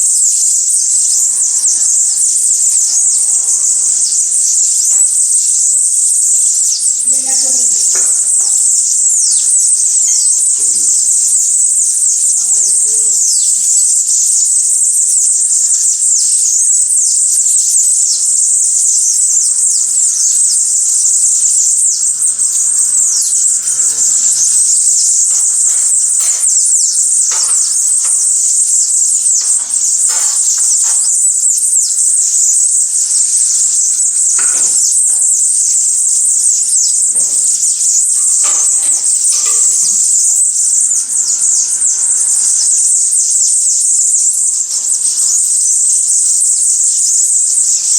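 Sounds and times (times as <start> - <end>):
chorus of small birds calling: 0.0 - 47.9
sharp bird calls: 0.0 - 47.9.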